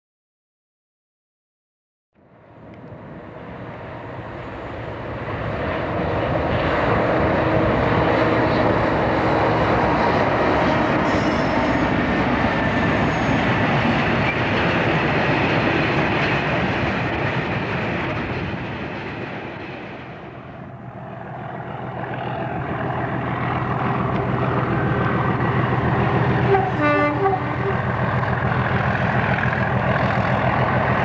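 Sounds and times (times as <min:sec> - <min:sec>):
diesel locomotive: 0:02.2 - 0:31.0.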